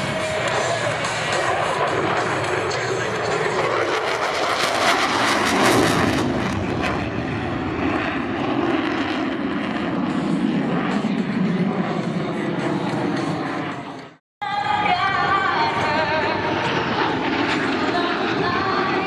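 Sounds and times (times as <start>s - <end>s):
jet aircraft roaring past: 0.0s - 19.0s.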